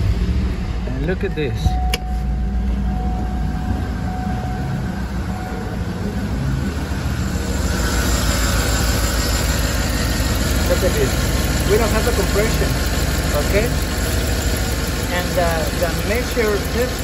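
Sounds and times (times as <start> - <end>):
misfiring car engine idling: 0.0 - 17.0.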